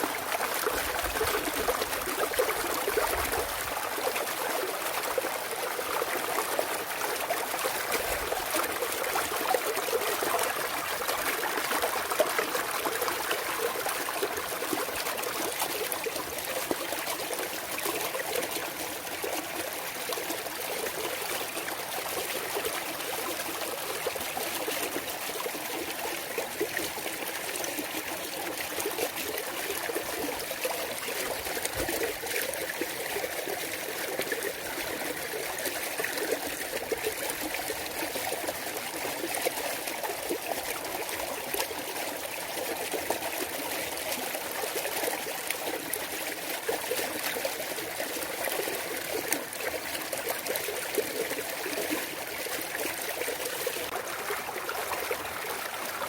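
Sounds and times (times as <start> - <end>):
water babbling over rocks: 0.0 - 56.0.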